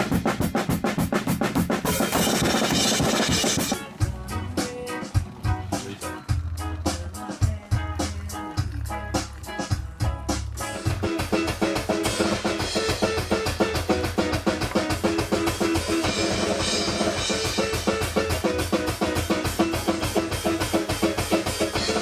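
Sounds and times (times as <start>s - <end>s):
rock music with drum kit: 0.0s - 22.0s.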